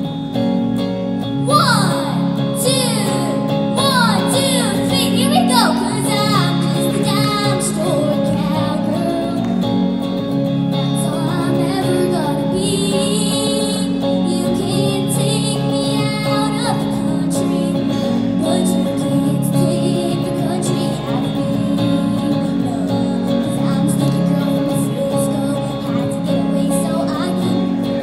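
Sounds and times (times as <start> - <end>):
electric guitar strumming: 0.0 - 28.0
girl singing into a microphone: 1.4 - 9.7, 10.7 - 28.0.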